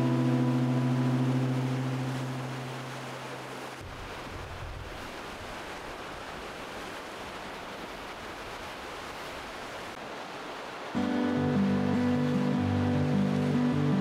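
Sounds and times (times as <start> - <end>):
ocean waves on rocky shore: 0.0 - 14.0.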